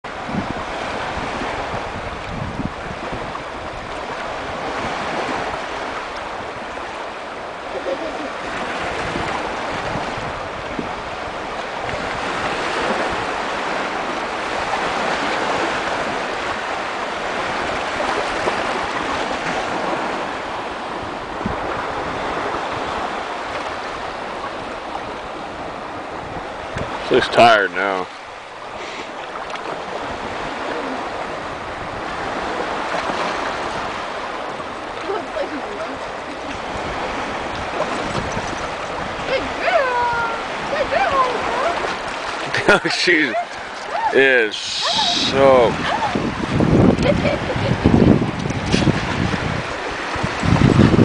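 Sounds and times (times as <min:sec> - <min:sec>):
wind buffeting microphone: 0:00.0 - 0:51.0
waves washing onto stony beach: 0:00.1 - 0:51.0.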